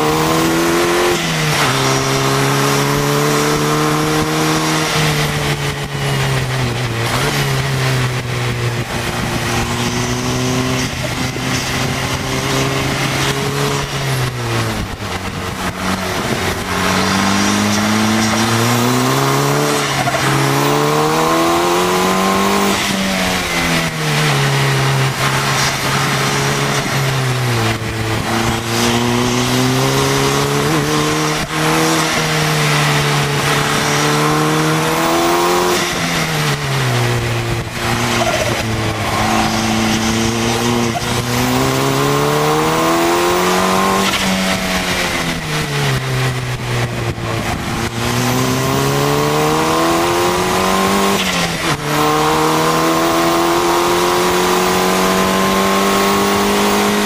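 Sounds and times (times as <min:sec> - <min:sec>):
race car engine revving: 0:00.0 - 0:57.0
rush of wind: 0:00.0 - 0:57.0.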